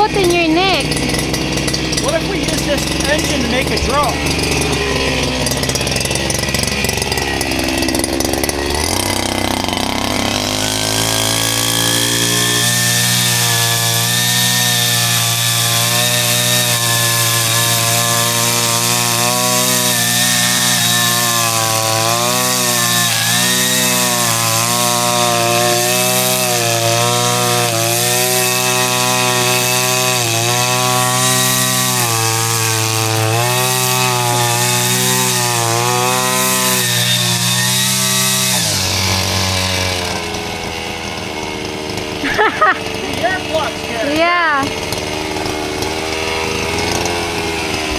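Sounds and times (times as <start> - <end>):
small gas engine running: 0.0 - 47.9.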